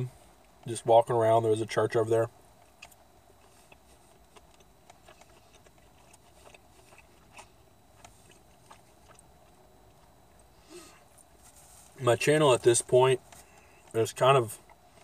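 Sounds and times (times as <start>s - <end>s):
soft chewing: 0.1s - 0.8s, 2.3s - 15.0s.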